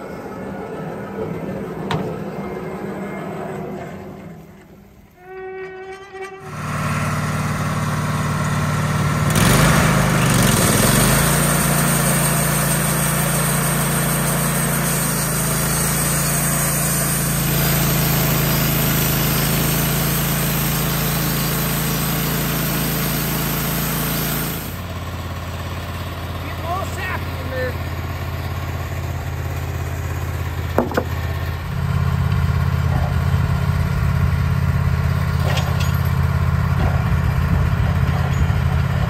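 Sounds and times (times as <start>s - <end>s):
sawmill engine running: 0.0s - 5.2s, 6.4s - 39.0s.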